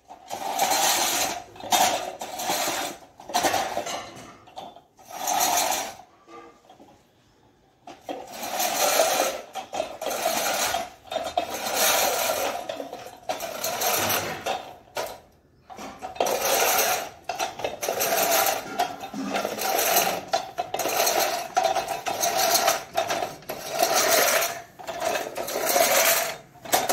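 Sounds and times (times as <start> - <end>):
reel mower blades whirring: 0.1 - 4.0, 5.0 - 6.1, 7.9 - 26.9.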